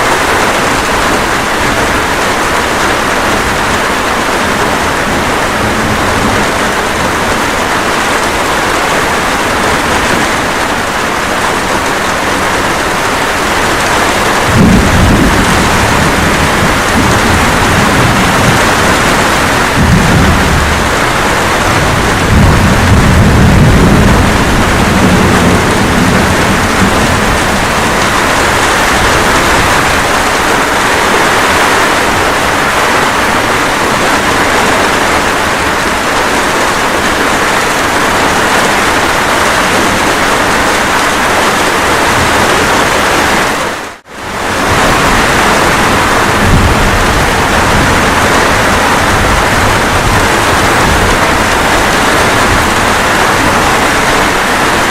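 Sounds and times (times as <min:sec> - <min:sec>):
steady rain: 0:00.0 - 0:54.9
thunder rumbling: 0:00.0 - 0:54.9.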